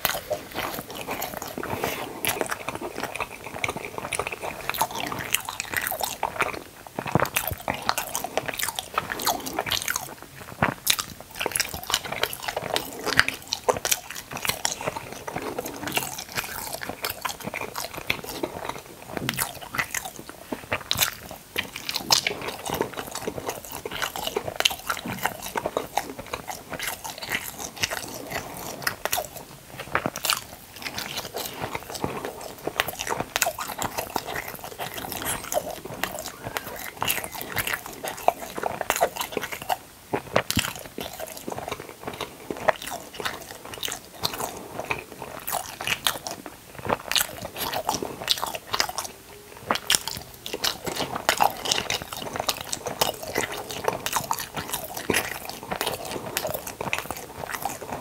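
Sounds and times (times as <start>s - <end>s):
mouth clicks and smacks: 0.0s - 58.0s
person biting and chewing: 0.0s - 58.0s.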